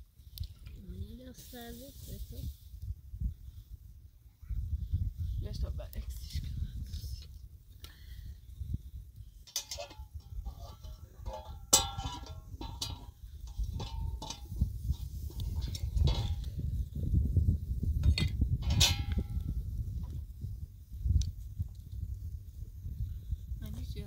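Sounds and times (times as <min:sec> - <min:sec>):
gusty low rumble: 0:00.4 - 0:24.0.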